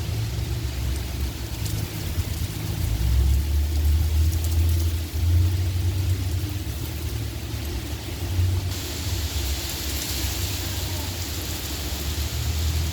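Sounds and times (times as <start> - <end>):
rain hiss: 0.0 - 12.9.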